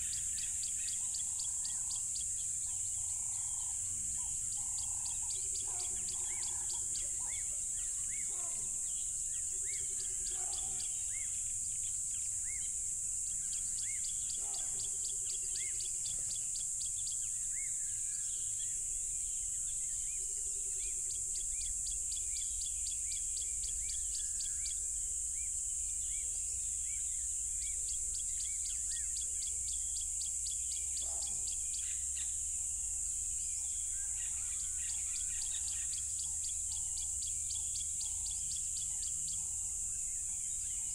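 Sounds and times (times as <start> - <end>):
bird chirps: 0.0 - 18.7, 19.3 - 32.5, 33.4 - 40.9
chorus of crickets: 0.0 - 40.9
pulsing insect chirp: 0.0 - 40.9.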